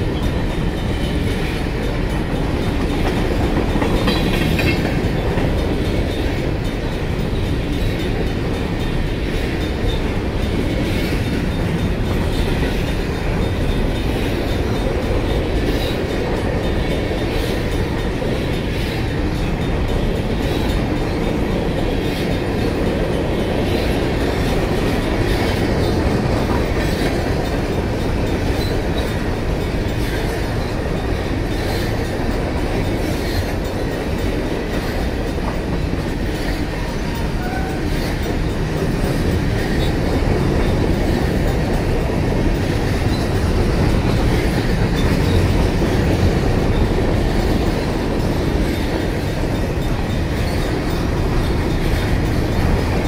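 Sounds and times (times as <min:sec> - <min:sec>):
crossing warning bell ringing: 0:00.0 - 0:53.0
freight train wheels rumbling: 0:00.0 - 0:53.0
wheels clicking over rail joints: 0:00.0 - 0:53.0.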